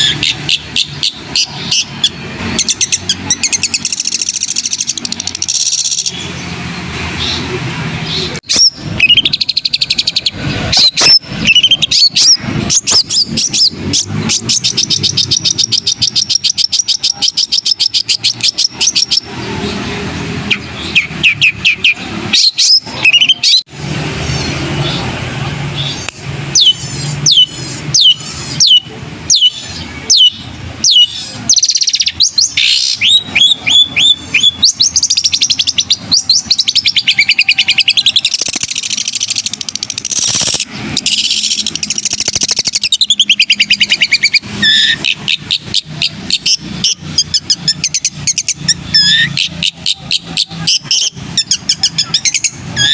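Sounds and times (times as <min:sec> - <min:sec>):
shrike singing: 0:00.0 - 0:52.9.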